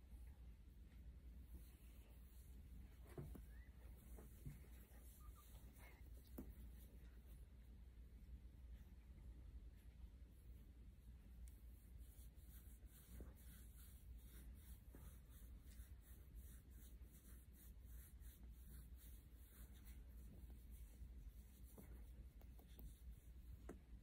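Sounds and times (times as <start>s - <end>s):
fingers rubbing puppy fur: 0.2s - 7.6s, 11.3s - 24.0s.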